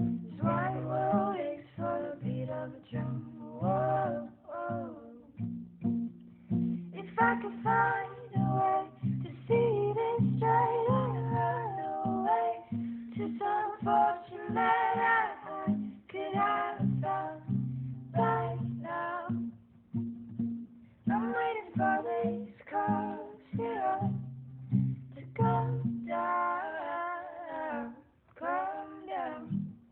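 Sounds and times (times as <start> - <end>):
young female voices singing: 0.0 - 5.4, 6.9 - 19.6, 21.0 - 29.8
acoustic guitar: 0.0 - 29.9.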